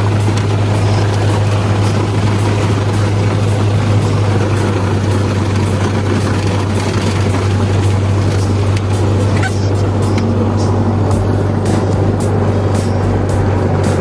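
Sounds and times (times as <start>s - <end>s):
loud engine drone: 0.0s - 14.0s.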